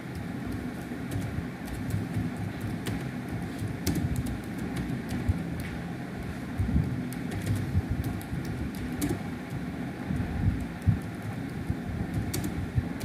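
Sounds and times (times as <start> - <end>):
low background rumble: 0.0 - 13.0
keyboard keys clicking: 0.1 - 5.8, 6.6 - 13.0.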